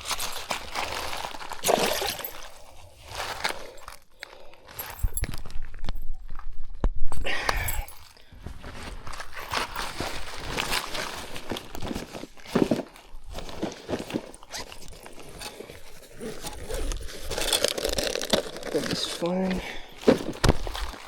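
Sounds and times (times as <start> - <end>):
crunching footsteps: 0.0 - 6.5, 7.8 - 21.0
rustling and scraping: 0.0 - 6.5, 7.5 - 21.0.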